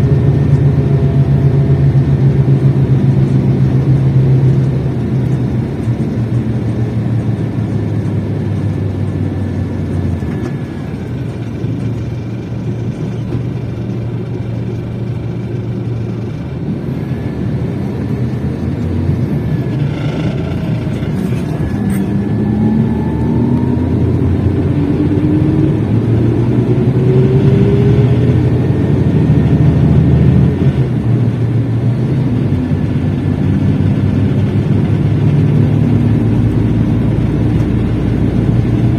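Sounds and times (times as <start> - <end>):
bus engine revving: 0.0 - 38.9.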